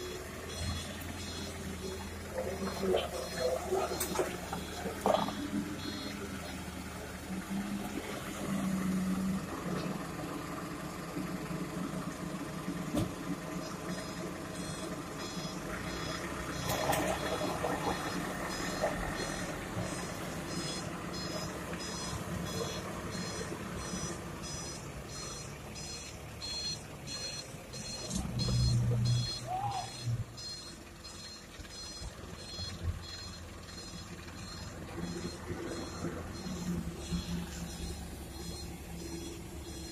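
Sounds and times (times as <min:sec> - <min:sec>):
reversing alarm beeping: 0:00.0 - 0:06.8, 0:13.6 - 0:39.9
diesel engine running: 0:00.0 - 0:39.9.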